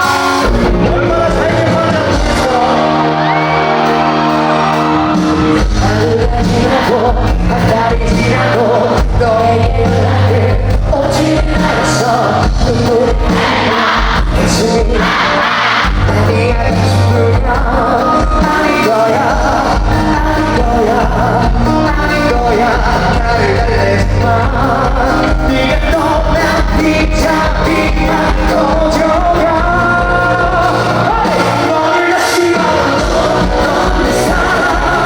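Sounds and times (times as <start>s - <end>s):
drums and bass beat: 0.0s - 35.0s
live rock band playing: 0.0s - 35.0s.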